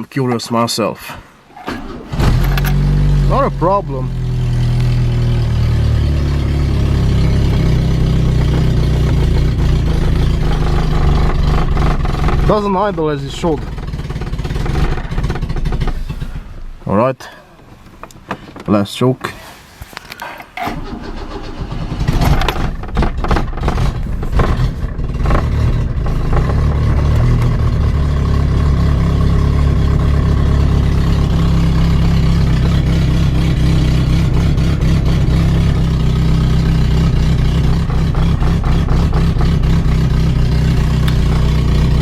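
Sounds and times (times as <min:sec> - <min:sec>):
car engine running on choke: 0:01.7 - 0:16.8, 0:20.7 - 0:42.0.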